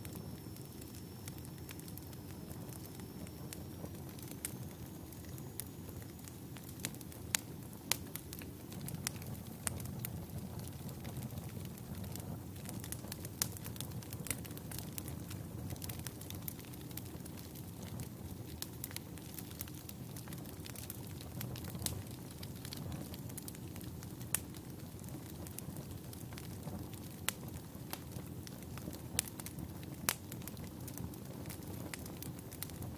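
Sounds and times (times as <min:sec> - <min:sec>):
fire crackles and pops: 0:00.0 - 0:32.9
flames rumbling: 0:00.0 - 0:32.9.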